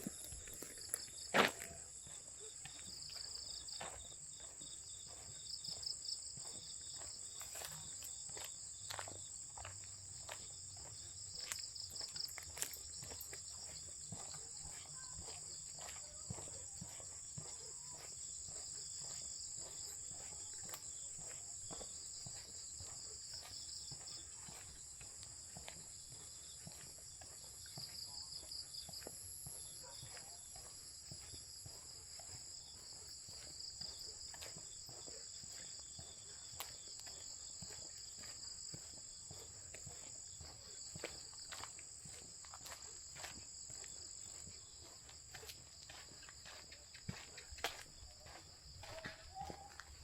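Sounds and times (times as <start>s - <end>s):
footsteps on a path: 0.0s - 50.0s.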